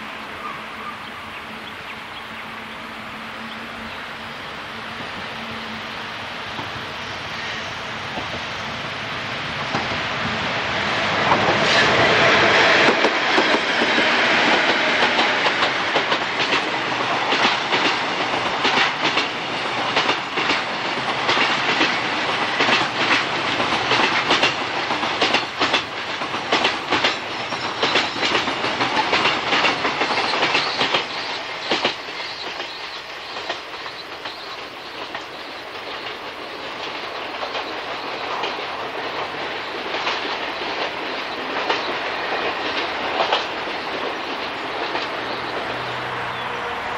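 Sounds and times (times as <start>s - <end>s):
train wheels clacking on rails: 3.4s - 46.9s.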